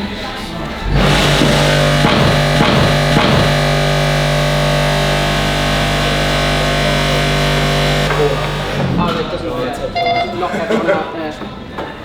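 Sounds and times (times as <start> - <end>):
sustained electronic chord: 0.6 - 10.6.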